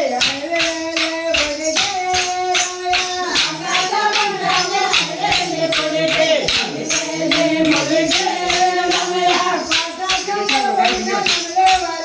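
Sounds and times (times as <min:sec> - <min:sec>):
group singing: 0:00.0 - 0:12.0
wooden sticks clacking: 0:00.0 - 0:12.0.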